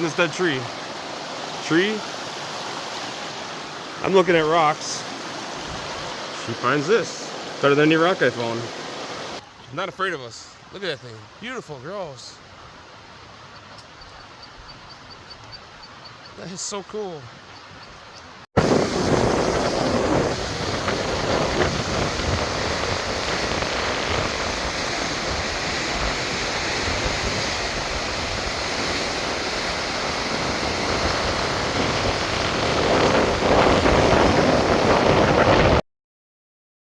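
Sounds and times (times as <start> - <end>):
moving water rushing: 0.0 - 35.8.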